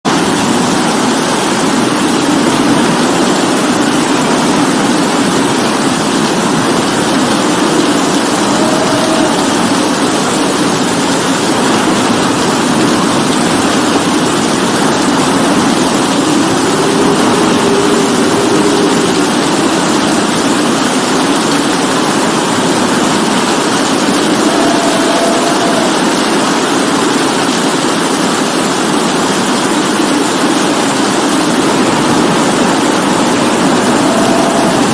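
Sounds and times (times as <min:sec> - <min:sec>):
low drone: 0:00.1 - 0:28.5, 0:30.3 - 0:34.9
steady rainfall: 0:00.1 - 0:34.9.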